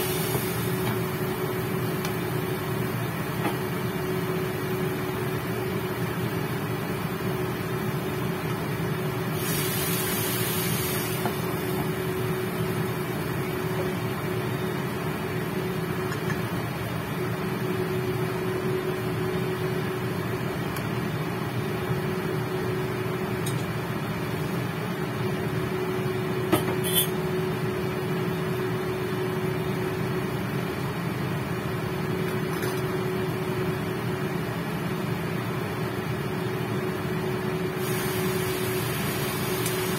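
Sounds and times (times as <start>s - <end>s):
induction cooker humming: 0.0s - 39.9s.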